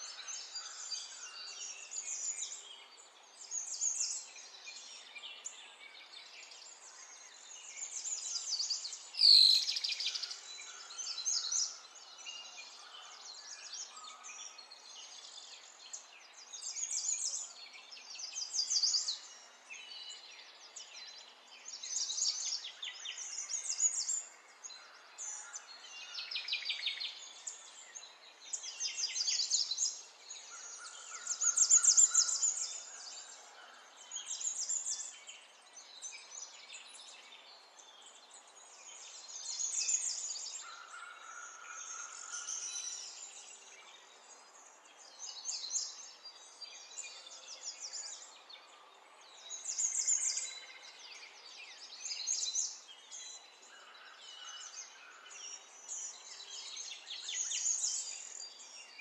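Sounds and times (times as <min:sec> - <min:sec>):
small birds trilling and chirping: 0:00.0 - 0:59.0.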